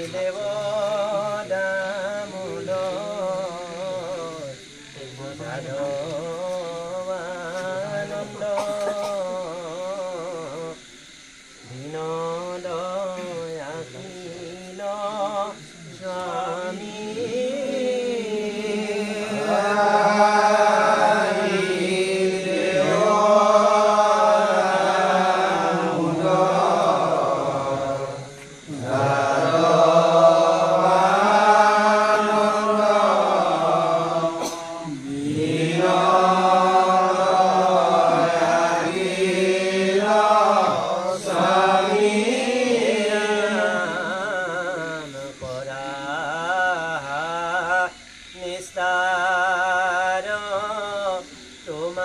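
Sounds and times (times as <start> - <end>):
voices chanting devotional song: 0.0 - 52.0.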